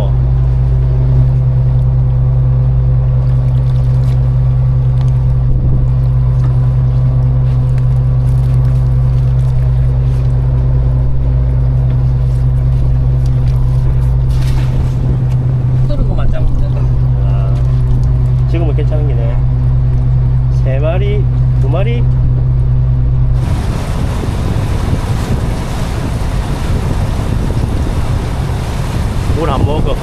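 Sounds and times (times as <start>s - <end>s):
boat engine droning: 0.0s - 30.0s.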